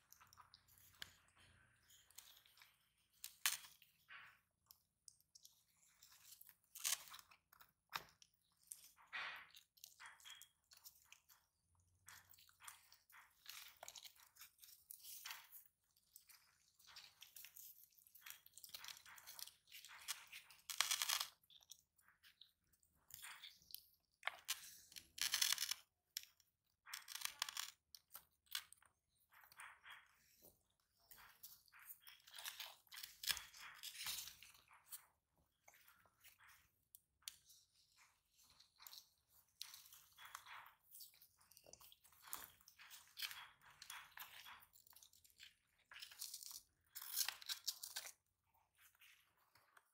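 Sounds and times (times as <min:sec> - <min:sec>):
tortoises crunching food: 0:00.0 - 0:49.9.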